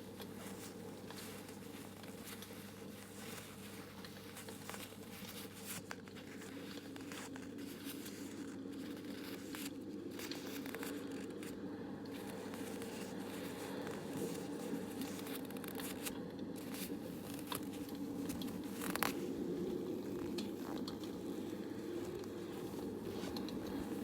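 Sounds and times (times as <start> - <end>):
close crinkling and crackling: 0.0 - 24.0
low background noise: 0.0 - 24.0.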